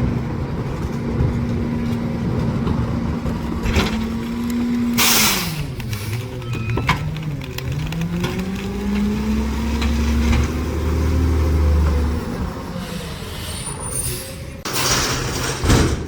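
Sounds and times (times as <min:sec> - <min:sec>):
garbage truck engine revving: 0:00.0 - 0:16.0.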